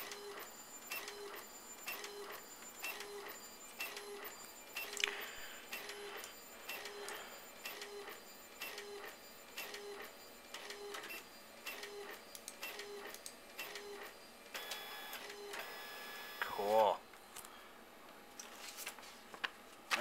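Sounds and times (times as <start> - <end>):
printer whirring: 0.0 - 17.2.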